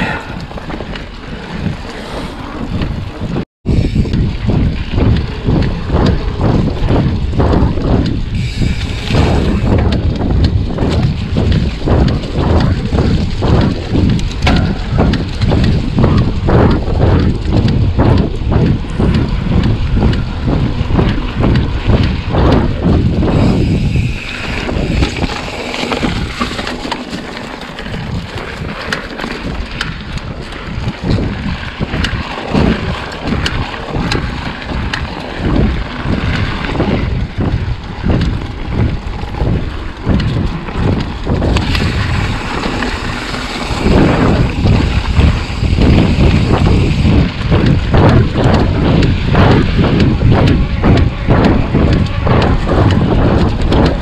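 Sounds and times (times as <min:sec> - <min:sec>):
bike rattles and clicks: 0:00.0 - 0:54.0
bike tyres rolling on dirt: 0:00.0 - 0:54.0
wind buffeting microphone: 0:00.0 - 0:54.0.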